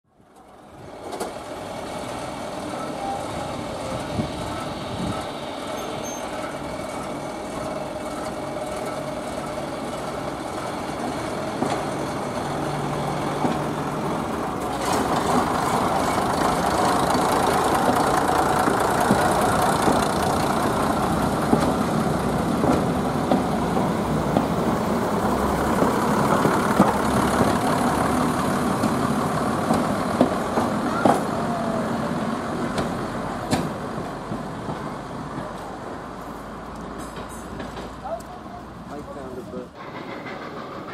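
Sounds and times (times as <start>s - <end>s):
diesel train engines: 0.1s - 40.9s.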